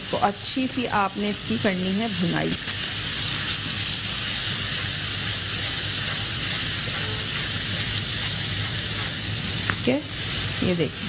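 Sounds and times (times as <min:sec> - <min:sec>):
minced meat sizzling in oil: 0:00.0 - 0:11.0
spatula stirring in pan: 0:00.0 - 0:11.0.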